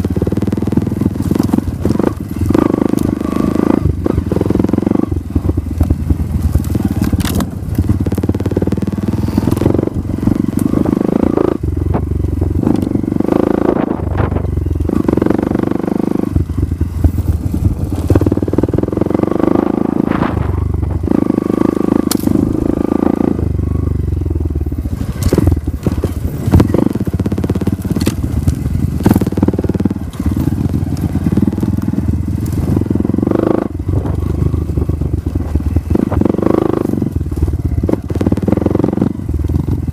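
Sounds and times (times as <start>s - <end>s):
bike knocking and rattling: 0.0s - 39.9s
dirt bike engine revving: 0.0s - 39.9s.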